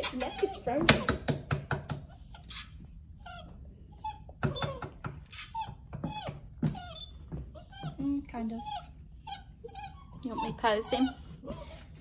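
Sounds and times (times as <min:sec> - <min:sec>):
puppy whimpering: 0:00.0 - 0:01.2, 0:02.0 - 0:12.0.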